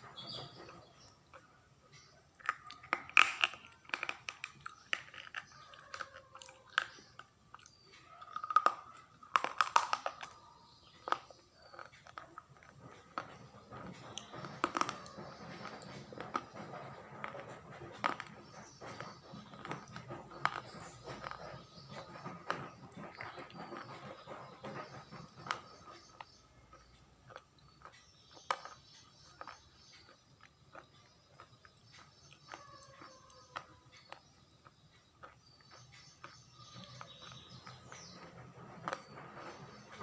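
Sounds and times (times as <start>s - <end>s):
crunchy food being chewed: 0.0s - 40.0s.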